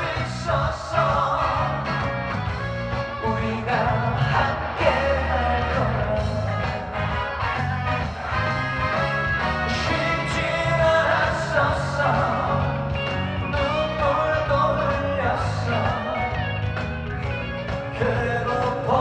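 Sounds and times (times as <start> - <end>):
live band music: 0.0 - 19.0.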